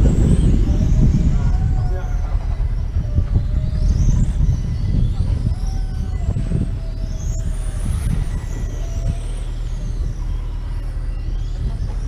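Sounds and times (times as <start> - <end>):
racing motorcycle engines whining: 0.0 - 12.0.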